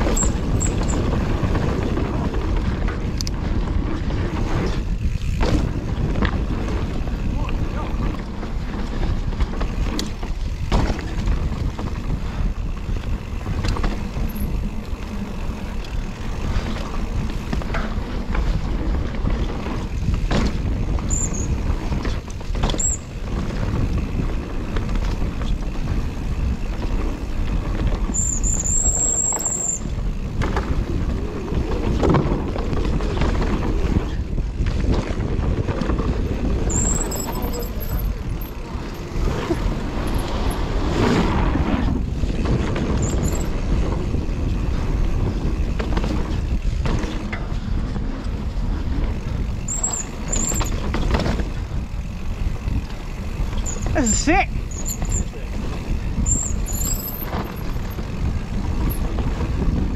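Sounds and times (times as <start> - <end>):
bike tyres rumbling and rattling: 0.0 - 59.9
brakes squealing: 0.0 - 59.9
wind rushing over microphone: 0.0 - 59.9.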